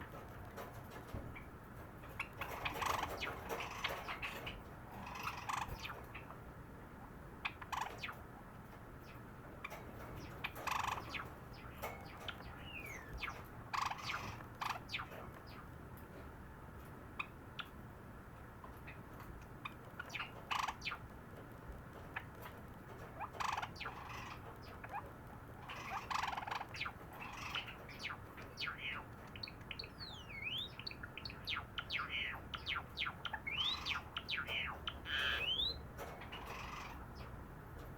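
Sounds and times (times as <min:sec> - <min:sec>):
small bird chirping and clicking: 0:00.0 - 0:06.4, 0:07.4 - 0:16.1, 0:16.8 - 0:17.8, 0:18.4 - 0:37.9.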